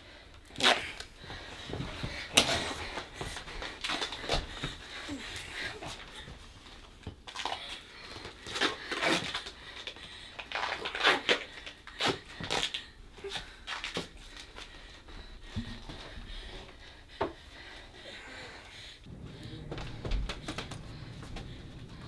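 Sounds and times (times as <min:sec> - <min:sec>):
breathing: 0:01.2 - 0:06.4, 0:07.4 - 0:10.5, 0:11.3 - 0:22.0.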